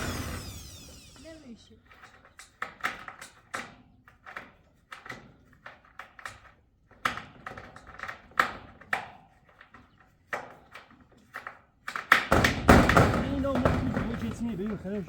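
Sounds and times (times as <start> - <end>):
objects tapping and knocking: 1.9 - 15.0.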